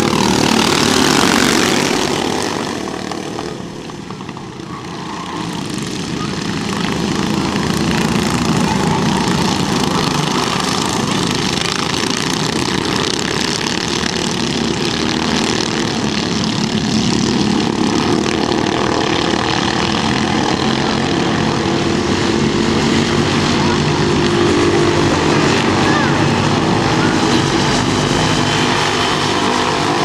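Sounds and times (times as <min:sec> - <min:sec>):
racing kart engines droning: 0:00.0 - 0:30.0.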